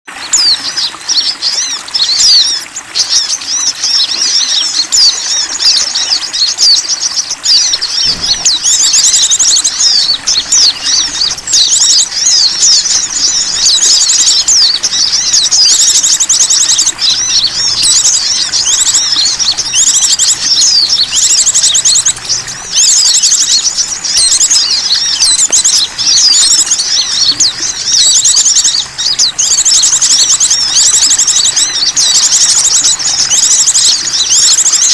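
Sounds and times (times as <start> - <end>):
small songbirds chirping and trilling: 0.1 - 34.9.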